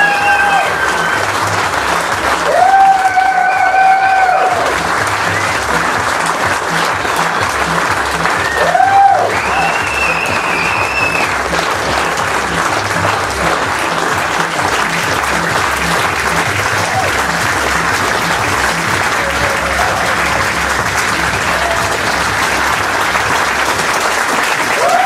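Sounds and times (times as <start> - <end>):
music with a regular beat: 0.0 - 23.9
audience applauding: 0.0 - 25.0.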